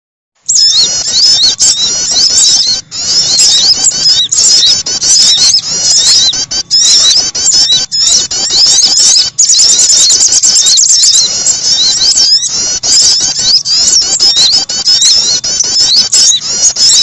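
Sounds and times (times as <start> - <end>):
songbirds chirping and trilling: 0.4 - 17.0.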